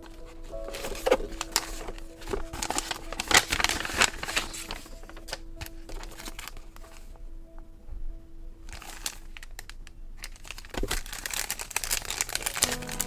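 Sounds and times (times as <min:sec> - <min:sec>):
paper rustling: 0:00.0 - 0:07.1, 0:08.7 - 0:13.0.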